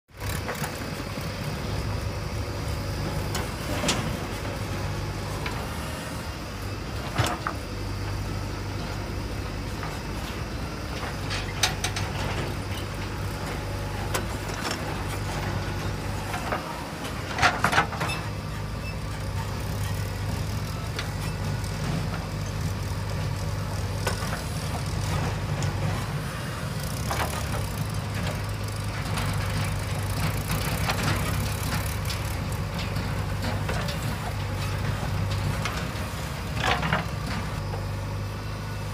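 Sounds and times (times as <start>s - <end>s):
diesel engine running under load: 0.1s - 38.9s.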